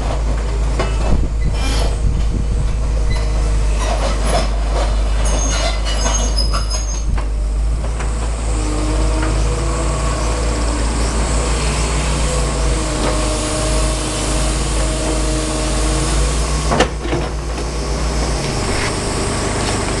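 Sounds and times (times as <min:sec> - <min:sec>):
excavator engine droning: 0:00.0 - 0:20.0.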